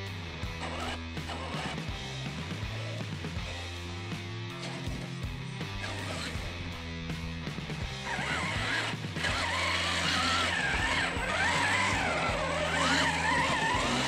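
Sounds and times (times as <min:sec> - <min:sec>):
background music: 0:00.0 - 0:14.0
rc car electric motor whining: 0:00.4 - 0:03.6, 0:04.5 - 0:06.5, 0:07.8 - 0:14.0.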